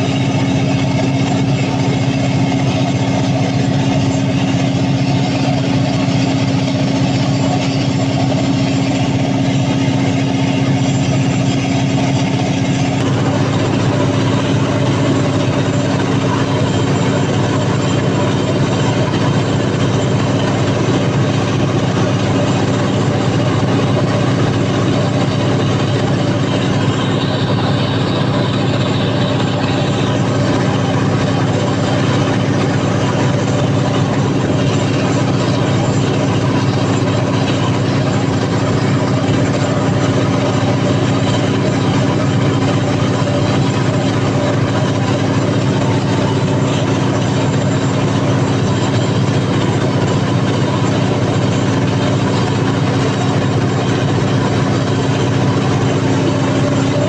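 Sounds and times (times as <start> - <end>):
diesel generator droning: 0.0 - 57.0.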